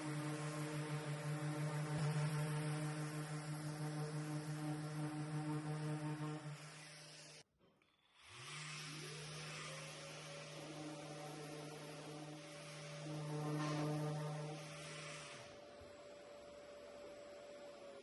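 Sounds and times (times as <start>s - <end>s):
electric sander humming: 0.0s - 7.4s, 8.3s - 18.0s.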